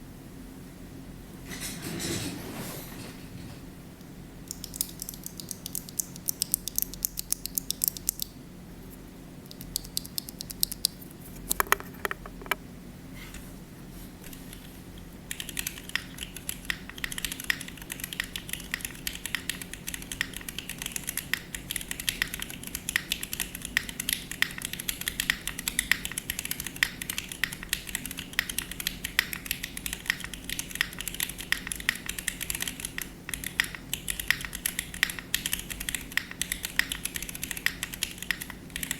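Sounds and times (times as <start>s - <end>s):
mechanical keyboard typing: 4.5s - 8.3s, 9.5s - 12.6s, 14.2s - 38.9s.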